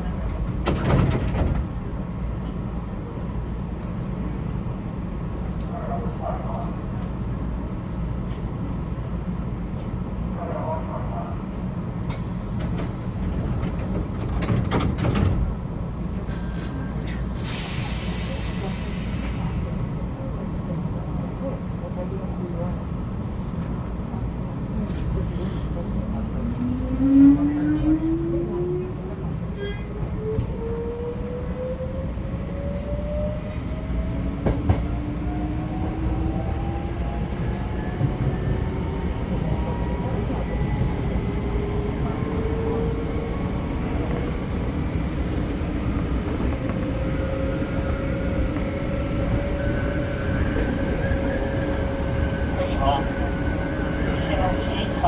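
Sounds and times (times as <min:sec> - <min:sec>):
train rolling rumble: 0:00.0 - 0:55.0.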